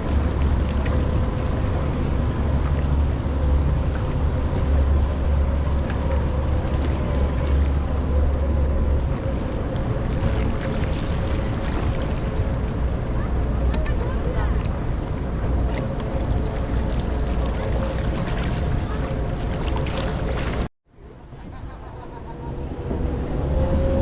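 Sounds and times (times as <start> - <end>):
water rushing: 0.0 - 20.7
wind on microphone: 0.0 - 20.7.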